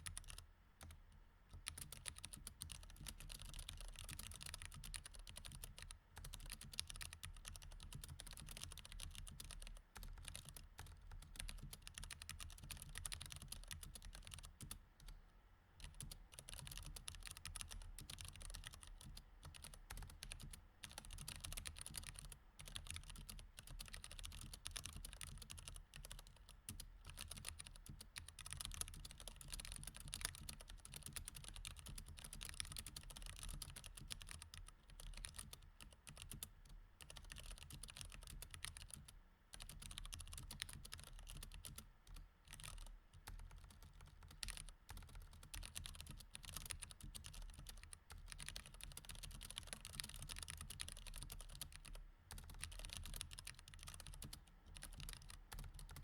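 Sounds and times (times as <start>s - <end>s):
mechanical keyboard typing: 0.0s - 1.0s, 1.6s - 14.8s, 15.8s - 56.0s.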